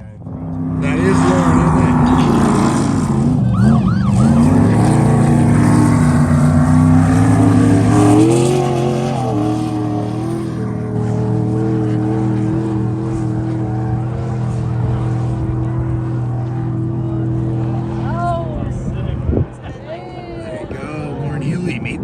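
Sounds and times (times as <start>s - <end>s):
race car engine revving: 0.0s - 19.6s.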